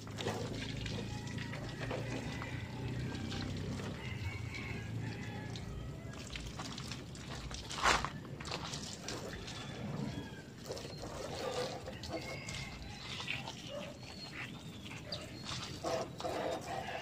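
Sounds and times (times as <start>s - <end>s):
hose water spraying and splashing: 0.0s - 17.0s.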